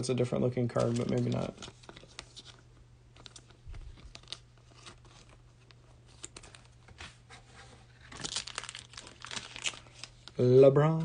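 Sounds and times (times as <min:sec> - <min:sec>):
card packs crinkling: 0:00.6 - 0:06.9, 0:07.9 - 0:11.0.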